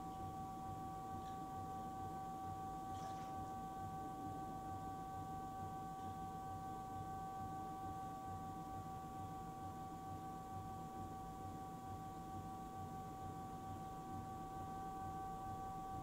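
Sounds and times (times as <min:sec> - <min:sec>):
pottery wheel whine and hum: 0:00.0 - 0:16.0.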